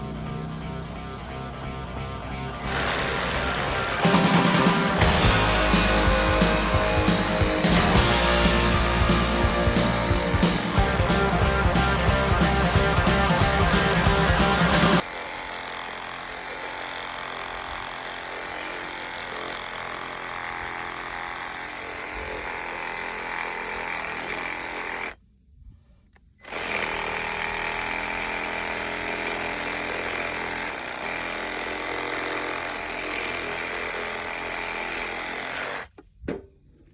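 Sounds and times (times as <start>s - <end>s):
chainsaw cutting firewood: 2.6s - 25.2s, 26.4s - 36.0s.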